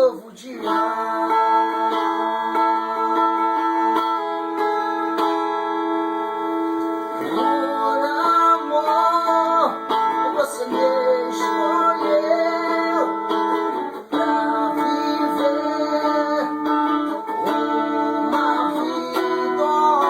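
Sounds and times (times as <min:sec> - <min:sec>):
guitar accompaniment: 0:00.0 - 0:20.0.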